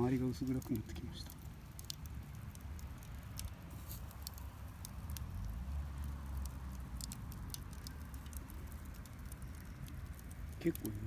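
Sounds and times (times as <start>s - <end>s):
campfire crackling: 0.0s - 11.0s
sharp pops of fire: 0.0s - 11.0s.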